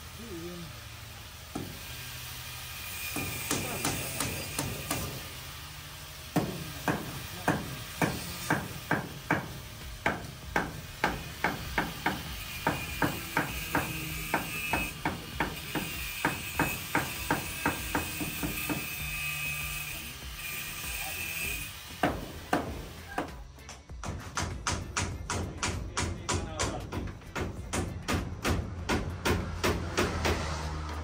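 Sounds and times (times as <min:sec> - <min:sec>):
hammer striking nails: 0:01.5 - 0:01.8, 0:03.1 - 0:05.2, 0:06.3 - 0:19.6, 0:21.4 - 0:30.6.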